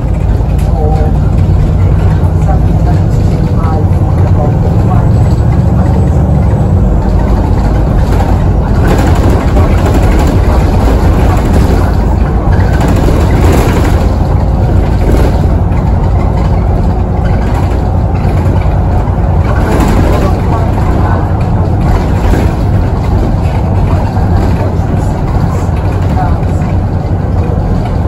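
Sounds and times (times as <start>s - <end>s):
bus engine and road noise: 0.0s - 28.0s.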